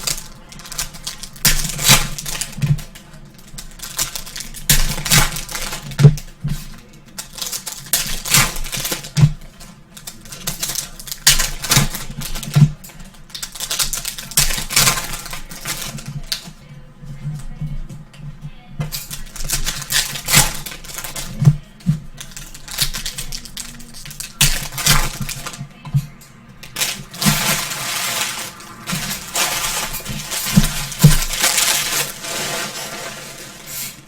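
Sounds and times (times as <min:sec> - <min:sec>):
card wrappers rustling and clicking: 0:00.0 - 0:16.7, 0:18.9 - 0:34.0.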